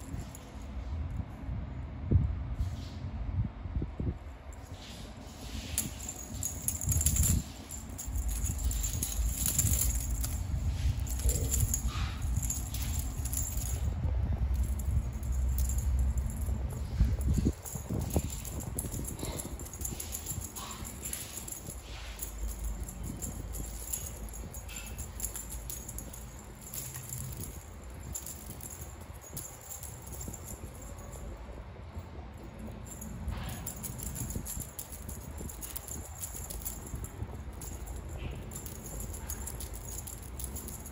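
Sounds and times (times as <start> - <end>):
metal chain jingling: 4.8 - 31.6, 32.4 - 40.9
handling noise rumble: 5.5 - 40.9.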